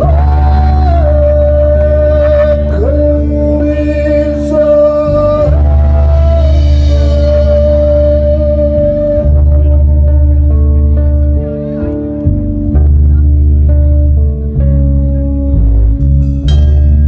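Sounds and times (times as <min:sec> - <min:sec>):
held melody notes: 0:00.0 - 0:17.0
low drone: 0:00.0 - 0:17.0.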